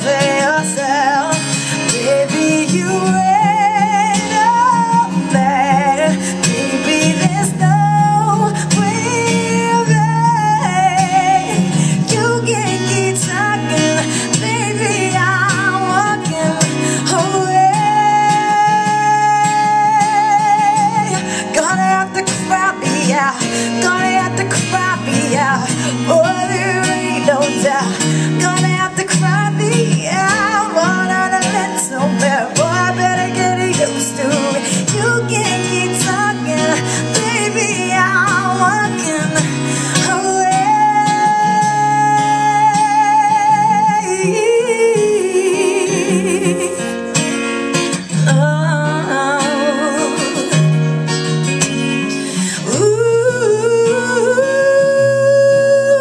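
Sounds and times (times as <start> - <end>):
acoustic guitar chords: 0.0 - 56.0
woman singing: 0.0 - 56.0.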